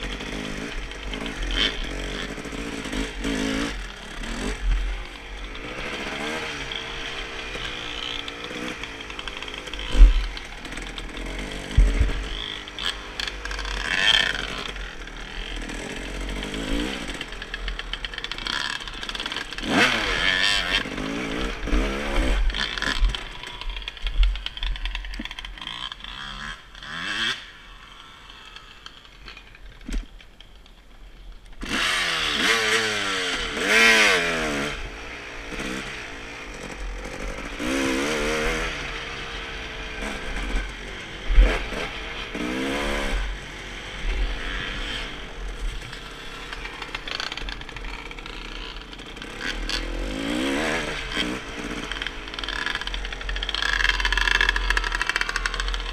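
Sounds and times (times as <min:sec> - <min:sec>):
dirt bike engine revving: 0:00.0 - 0:30.0, 0:31.6 - 0:55.9.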